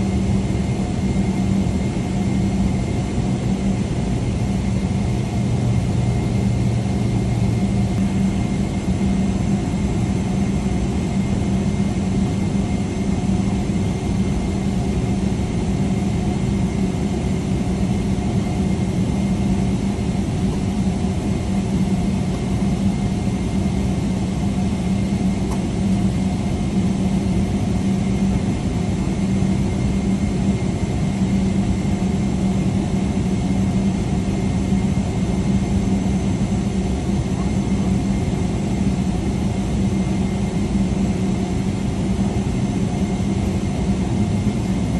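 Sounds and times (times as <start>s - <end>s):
jet engines droning: 0.0s - 44.9s.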